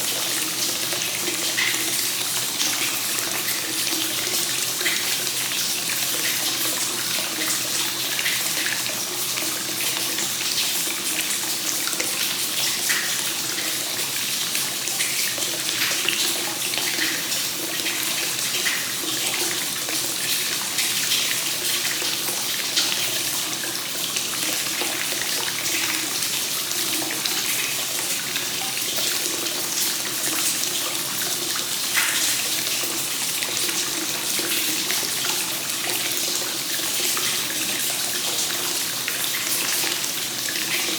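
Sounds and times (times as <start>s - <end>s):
water pouring into a bath: 0.0s - 40.9s.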